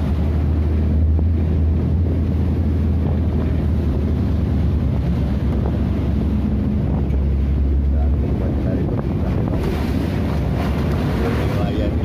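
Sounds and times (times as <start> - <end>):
boat engine drone: 0.0 - 12.0
water churning along hull: 0.0 - 12.0
wind buffeting microphone: 0.0 - 12.0.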